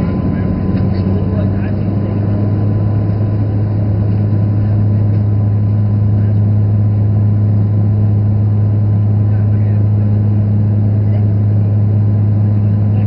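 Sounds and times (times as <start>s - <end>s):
airplane engines droning: 0.0s - 13.0s.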